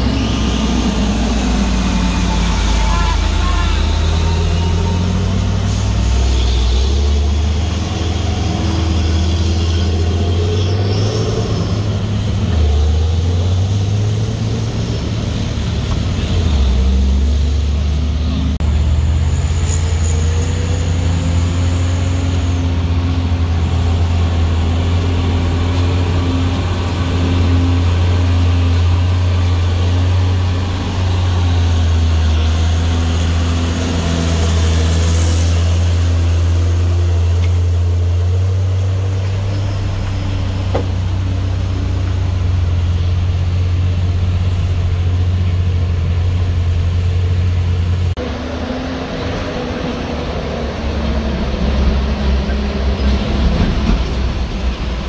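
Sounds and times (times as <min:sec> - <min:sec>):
diesel truck engine labouring: 0:00.0 - 0:55.0.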